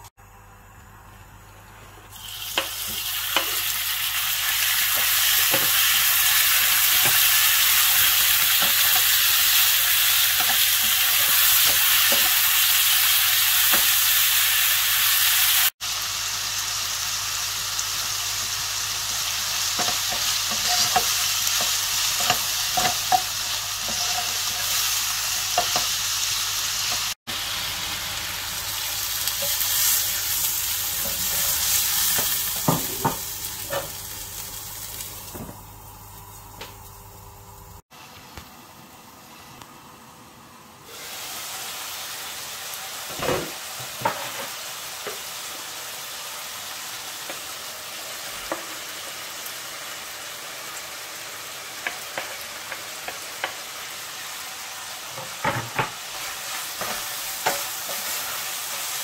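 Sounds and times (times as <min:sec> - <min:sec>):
meat sizzling in hot oil: 0:02.1 - 0:38.1, 0:40.9 - 0:59.0.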